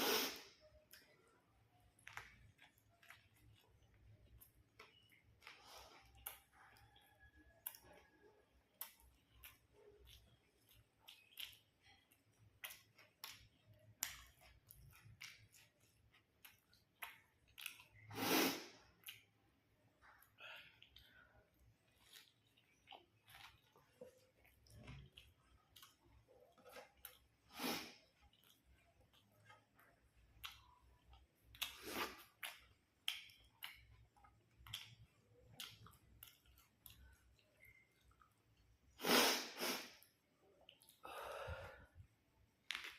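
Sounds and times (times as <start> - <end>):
chewing with crunches: 0.3 - 39.0, 39.6 - 42.9.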